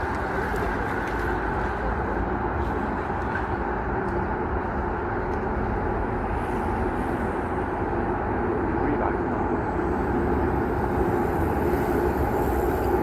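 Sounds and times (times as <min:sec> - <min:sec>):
train rumbling over steel bridge: 0:00.0 - 0:13.0.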